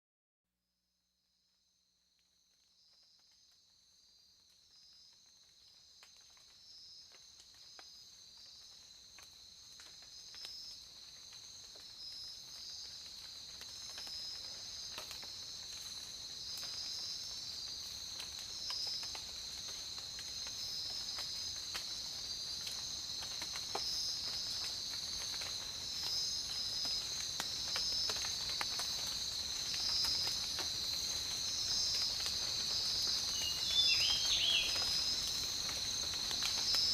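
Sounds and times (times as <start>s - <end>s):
raindrops pattering: 2.3s - 36.9s
pulsing insect chorus: 6.7s - 36.9s.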